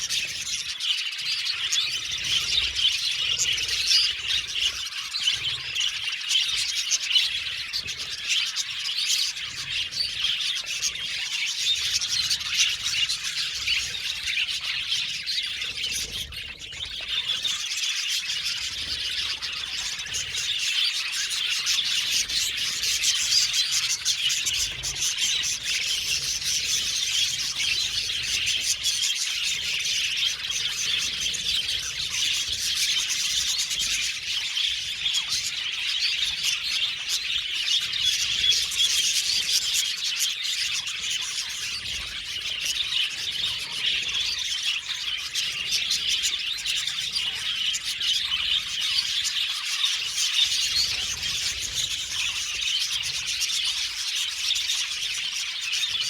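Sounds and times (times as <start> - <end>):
budgies chirping and chattering: 0.0 - 56.0.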